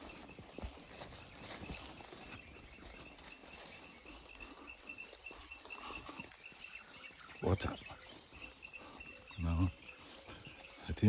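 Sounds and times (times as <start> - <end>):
insects chirping: 0.0 - 11.0
soft footsteps on a path: 0.0 - 11.0.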